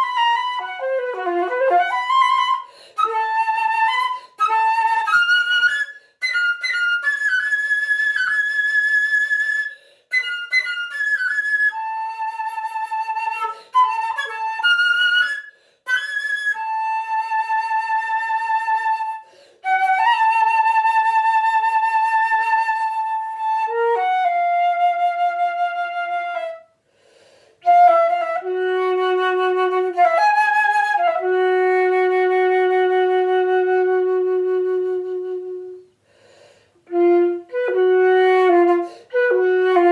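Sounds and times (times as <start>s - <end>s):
solo flute melody: 0.0s - 26.8s, 27.6s - 36.0s, 36.8s - 39.9s.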